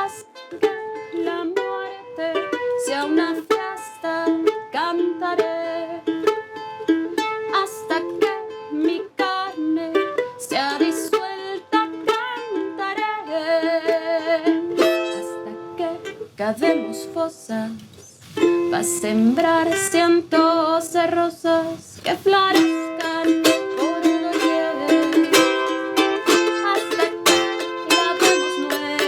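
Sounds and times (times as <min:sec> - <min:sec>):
acoustic guitar playing: 0:00.0 - 0:21.2, 0:22.1 - 0:29.0.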